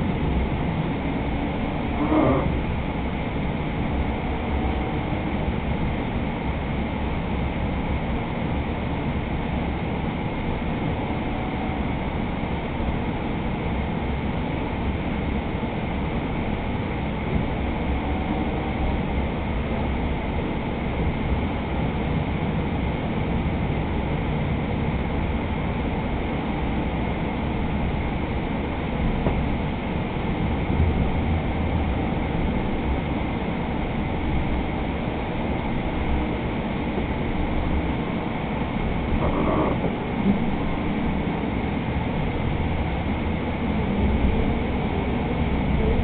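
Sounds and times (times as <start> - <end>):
train cabin rumble: 0.0 - 46.0.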